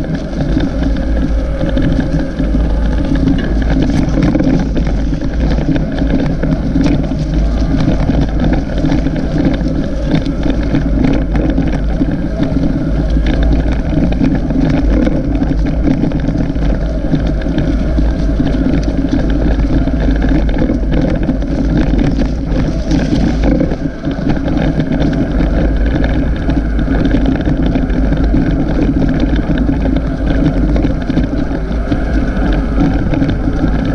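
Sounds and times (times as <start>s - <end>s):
bicycle rattling on dirt track: 0.0s - 33.9s
wind buffeting microphone: 0.0s - 33.9s.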